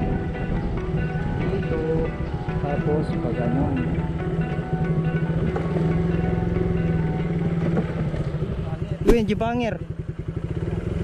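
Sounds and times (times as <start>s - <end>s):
background music: 0.0s - 9.8s
motorcycle engine running: 0.0s - 11.0s.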